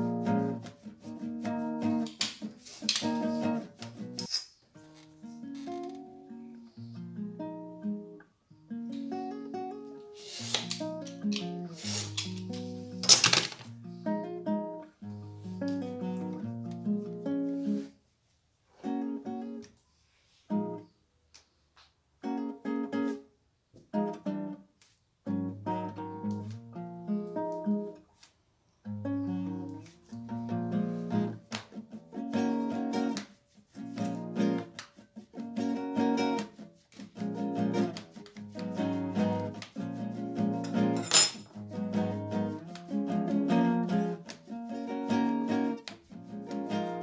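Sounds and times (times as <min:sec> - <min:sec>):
acoustic guitar music: 0:00.0 - 0:18.0, 0:18.8 - 0:19.7, 0:20.5 - 0:20.9, 0:22.2 - 0:23.3, 0:23.9 - 0:28.1, 0:28.8 - 0:47.0.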